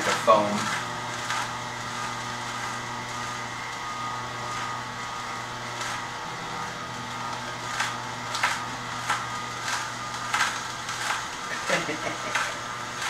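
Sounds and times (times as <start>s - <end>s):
juicer motor humming: 0.0s - 13.0s.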